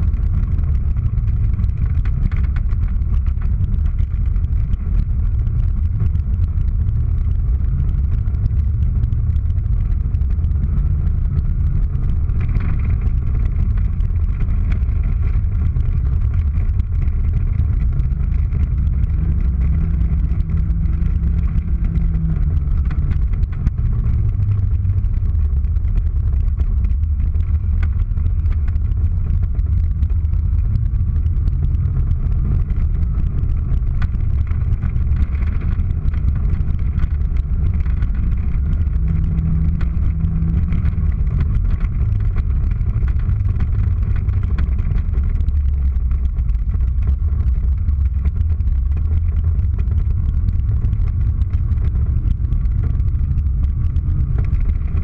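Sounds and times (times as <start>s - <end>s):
car engine drone from inside: 0.0s - 55.0s.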